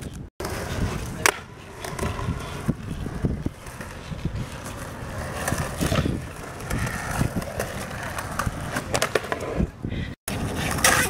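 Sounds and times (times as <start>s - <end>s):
skateboard knocks and scrapes: 0.0s - 9.7s, 10.3s - 11.0s
skateboard wheels rolling on concrete: 0.0s - 11.0s.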